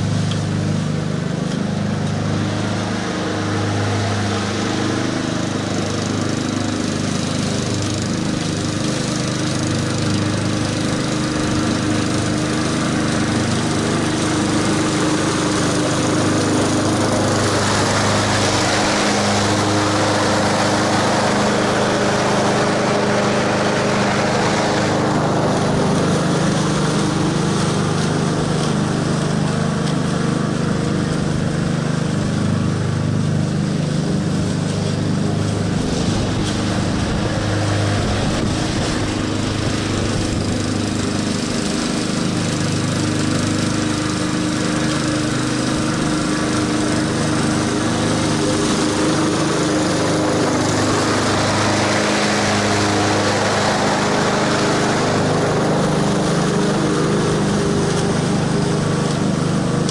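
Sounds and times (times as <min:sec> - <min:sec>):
lawn mower engine cutting grass: 0:00.0 - 0:59.9.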